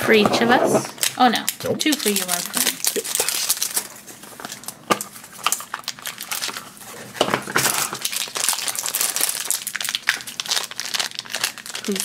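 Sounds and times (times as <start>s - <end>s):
foil wrapper crinkling: 1.0s - 12.0s.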